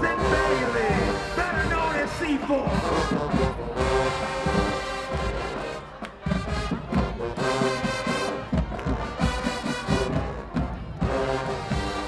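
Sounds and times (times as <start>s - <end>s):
marching band brass: 0.0s - 12.0s.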